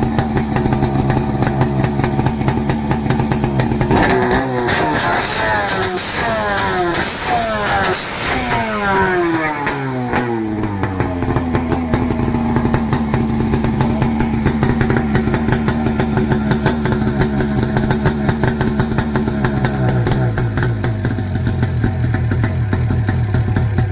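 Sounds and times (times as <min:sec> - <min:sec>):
jet ski engine idling: 0:00.0 - 0:07.8, 0:08.6 - 0:23.9.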